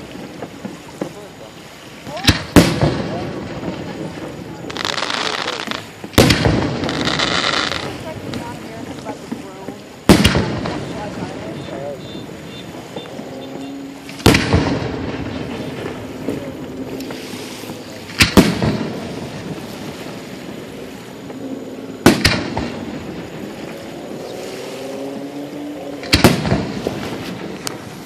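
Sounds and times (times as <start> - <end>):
fireworks bangs with crackle: 0.0 - 24.3, 26.0 - 28.0.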